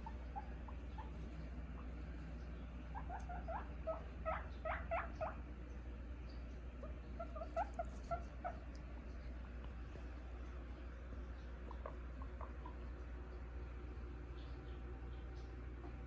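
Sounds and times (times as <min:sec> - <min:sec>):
guinea pig squeaking: 0:00.0 - 0:09.8, 0:10.4 - 0:16.0.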